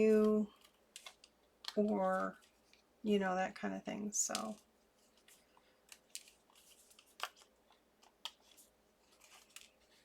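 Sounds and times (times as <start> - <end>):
card stock clicks and rustles: 0.0 - 2.8, 4.2 - 10.0.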